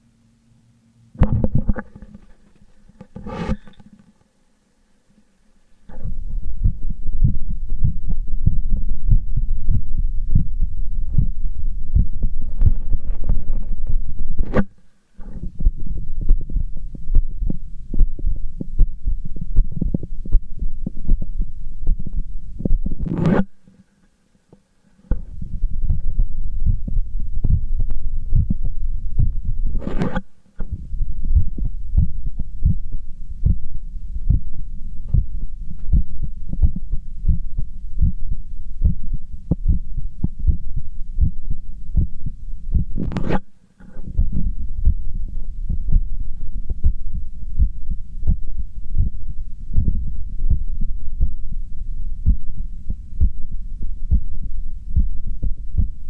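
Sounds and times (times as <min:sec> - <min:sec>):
stethoscope rubbing noise: 0:01.3 - 0:04.0, 0:05.9 - 0:23.6, 0:25.1 - 0:38.2, 0:38.8 - 0:51.4
heartbeat through stethoscope: 0:05.9 - 0:14.5, 0:15.4 - 0:23.2, 0:25.1 - 0:29.8, 0:30.6 - 0:43.4, 0:44.0 - 0:56.0.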